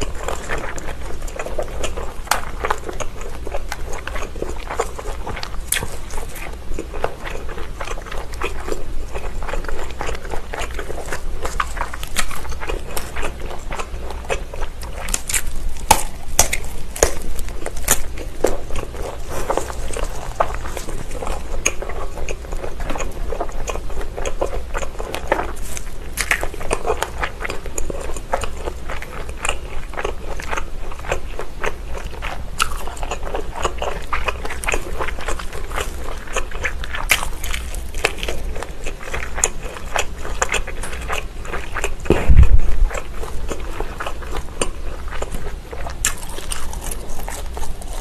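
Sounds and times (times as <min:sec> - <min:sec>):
person chewing and biting: 0:00.0 - 0:48.0.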